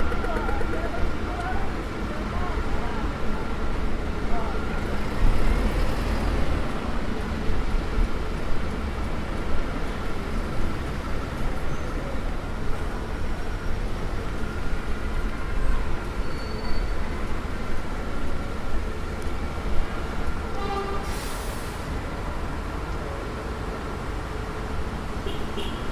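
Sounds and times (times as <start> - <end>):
traffic on wet street: 0.0 - 25.9.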